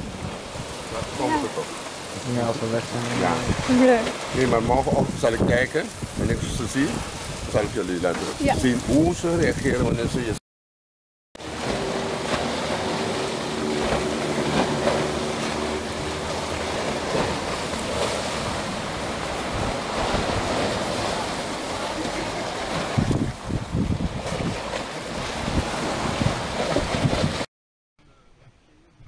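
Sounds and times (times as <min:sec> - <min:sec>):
surf washing against rocks: 0:00.0 - 0:10.4, 0:11.4 - 0:27.5
wind buffeting microphone: 0:00.0 - 0:10.4, 0:11.4 - 0:27.5.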